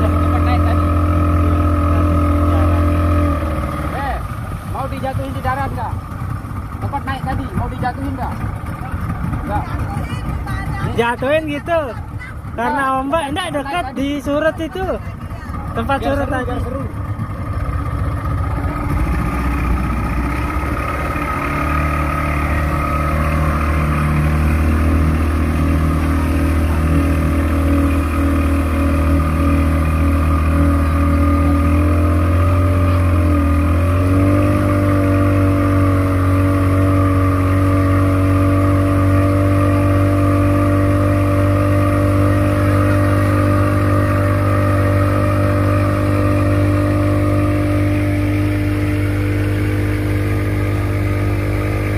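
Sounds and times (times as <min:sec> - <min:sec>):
motor engine running: 0:00.0 - 0:51.9.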